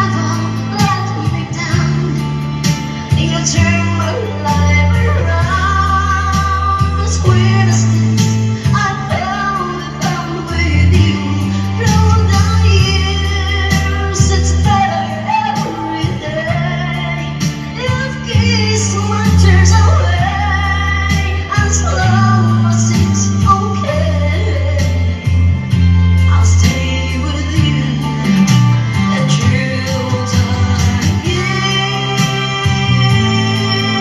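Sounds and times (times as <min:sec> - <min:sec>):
backing track with bass and beat: 0:00.0 - 0:34.0
woman singing pop ballad: 0:00.0 - 0:34.0.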